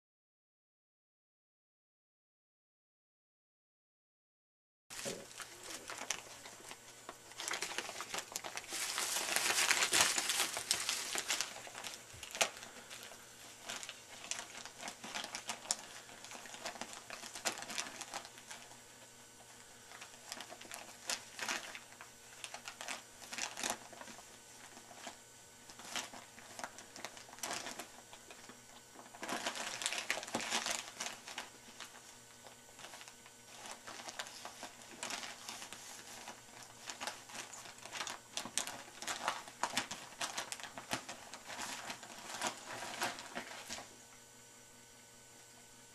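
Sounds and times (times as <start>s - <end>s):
wrapping paper crinkling: 4.9s - 44.0s.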